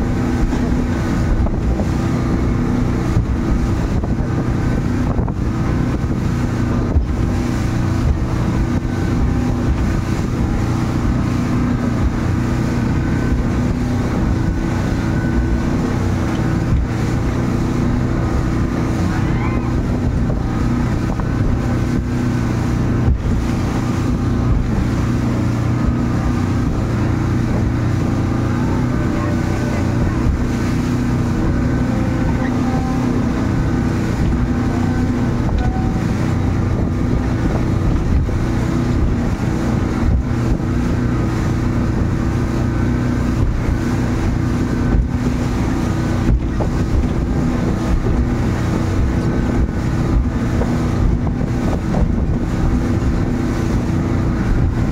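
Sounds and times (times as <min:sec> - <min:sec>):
outboard motor running: 0:00.0 - 0:54.9
water rushing: 0:00.0 - 0:54.9
wind noise on microphone: 0:00.0 - 0:54.9.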